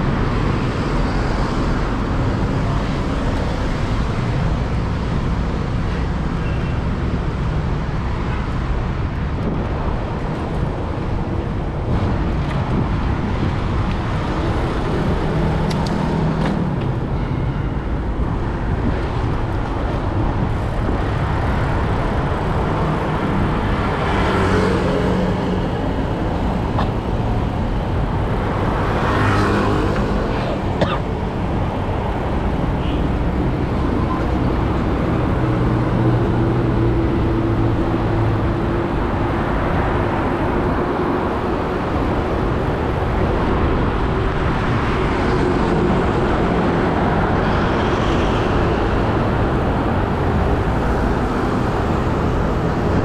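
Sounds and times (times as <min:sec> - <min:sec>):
road noise rushing: 0:00.0 - 0:53.0
vehicle engines passing: 0:00.0 - 0:53.0.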